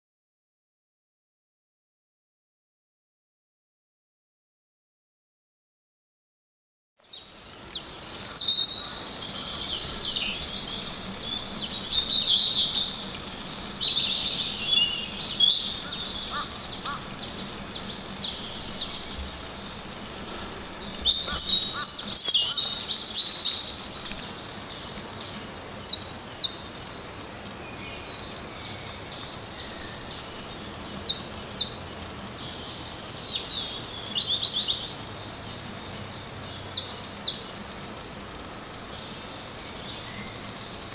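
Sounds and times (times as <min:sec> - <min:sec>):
birds chirping and trilling: 0:07.0 - 0:40.9
faint background hiss: 0:07.0 - 0:40.9.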